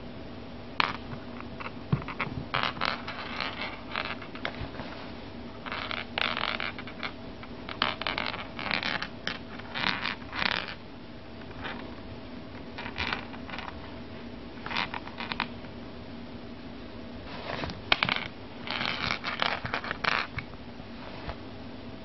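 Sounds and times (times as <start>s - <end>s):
faint steady hum: 0.0s - 22.0s
rustling and scraping: 0.8s - 10.8s, 11.4s - 12.0s, 12.6s - 15.6s, 17.2s - 21.5s.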